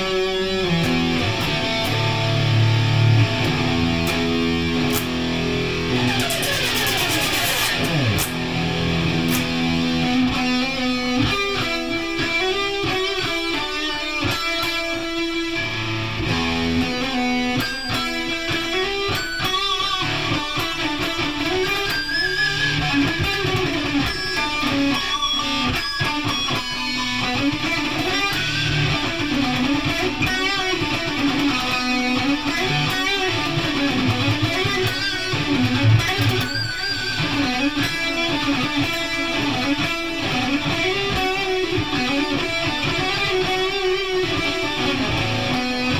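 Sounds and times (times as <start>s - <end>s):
guitar with bending notes: 0.0s - 45.9s.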